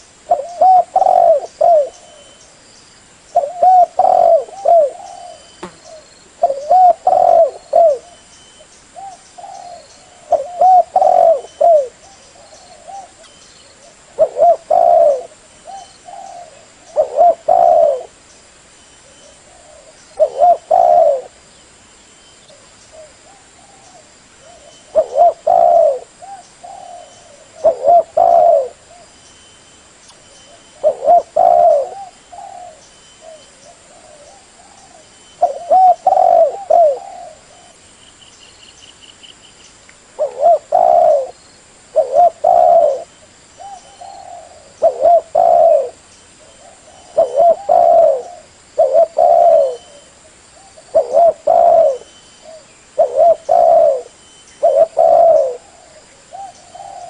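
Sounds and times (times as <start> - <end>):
dove cooing: 0.0 - 2.4, 3.4 - 8.2, 9.0 - 18.2, 19.0 - 21.4, 22.5 - 29.2, 30.5 - 37.8, 40.2 - 57.0.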